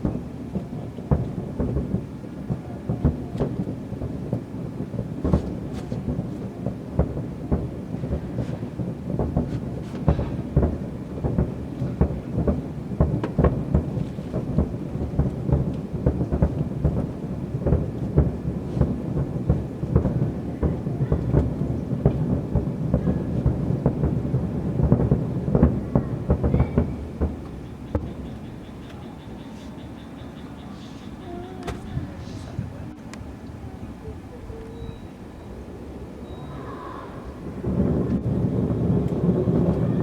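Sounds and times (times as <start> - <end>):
fireworks booming: 0.0 - 40.0.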